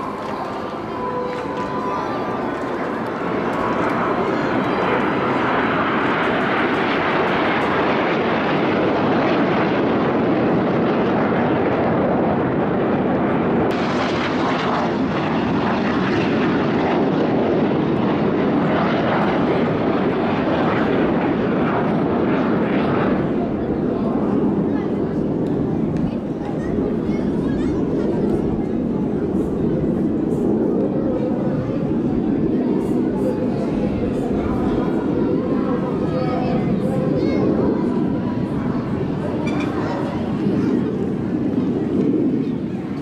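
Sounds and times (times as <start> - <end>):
jet engine roar: 0.0 - 43.0.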